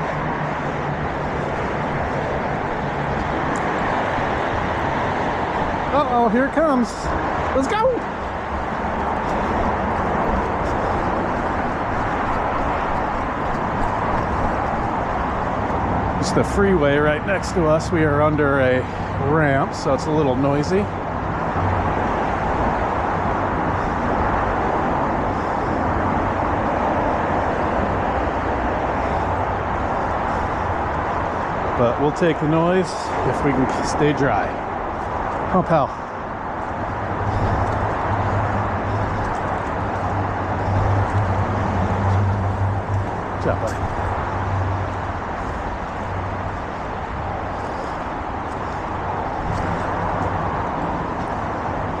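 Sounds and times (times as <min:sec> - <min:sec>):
freeway traffic roar: 0:00.0 - 0:52.0.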